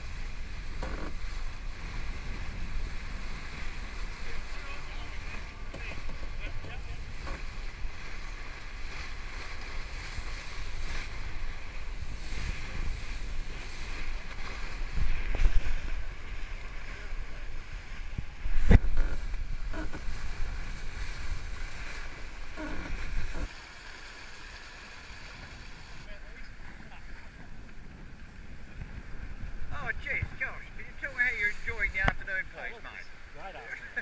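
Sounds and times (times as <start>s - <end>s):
wind buffeting microphone: 0.0s - 23.5s, 25.0s - 32.2s
water rushing past hull: 0.0s - 34.0s.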